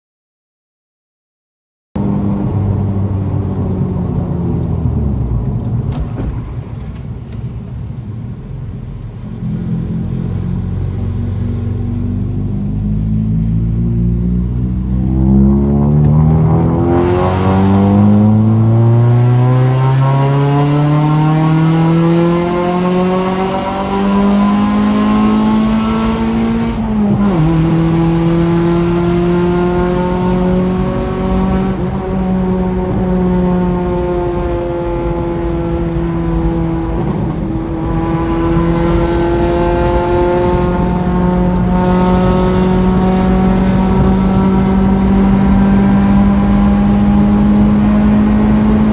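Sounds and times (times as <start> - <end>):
car engine revving: 2.0 - 48.9.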